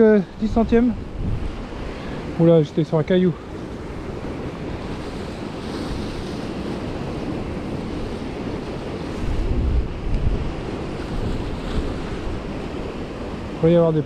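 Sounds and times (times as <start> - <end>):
wind buffeting microphone: 0.0 - 13.6
sea surf: 0.0 - 14.0.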